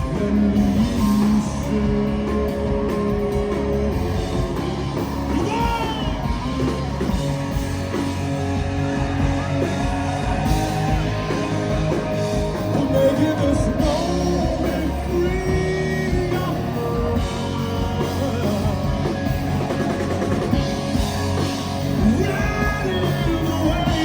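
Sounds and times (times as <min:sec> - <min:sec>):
person singing: 0:00.0 - 0:06.9, 0:09.0 - 0:19.7, 0:21.9 - 0:24.0
live rock band playing: 0:00.0 - 0:24.0.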